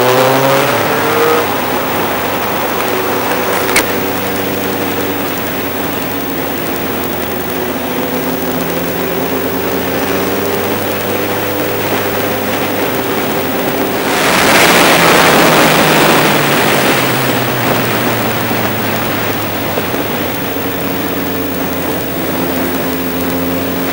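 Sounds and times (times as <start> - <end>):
motorcycle engine running: 0.0 - 23.9
rush of wind noise: 0.0 - 23.9.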